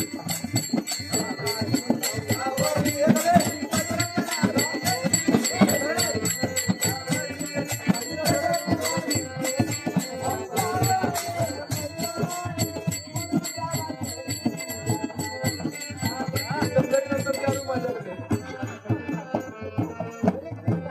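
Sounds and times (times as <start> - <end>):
drum beat: 0.0 - 20.9
jingling rattling percussion: 0.0 - 20.9.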